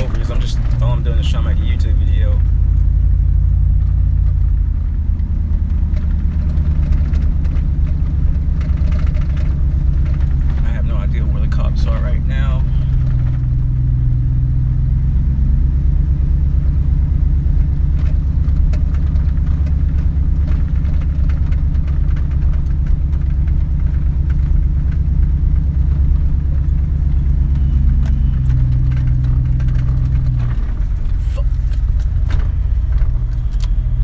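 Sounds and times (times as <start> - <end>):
truck exhaust droning: 0.0 - 34.0.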